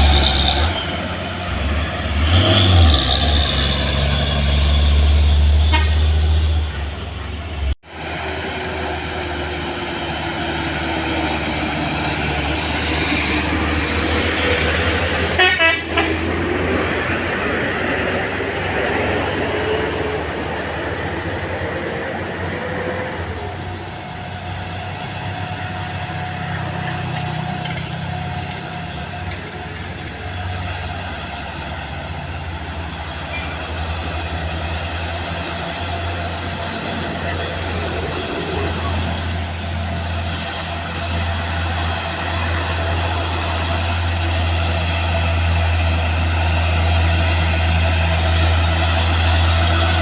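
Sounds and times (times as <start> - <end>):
diesel truck engines climbing: 0.0 - 50.0.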